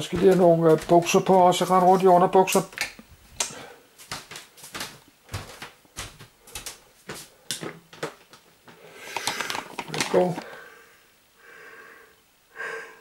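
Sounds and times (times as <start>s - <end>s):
clothes rustling: 0.0s - 10.6s.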